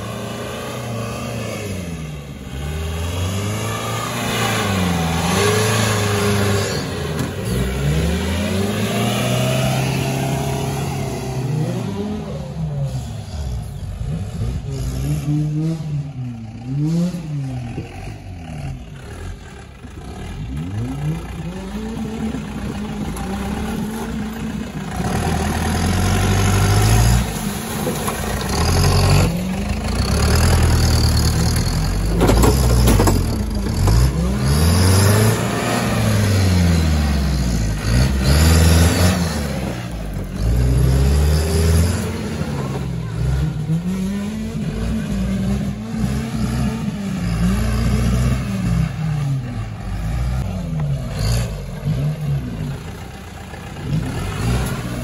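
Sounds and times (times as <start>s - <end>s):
jeep engine revving: 0.0s - 55.0s.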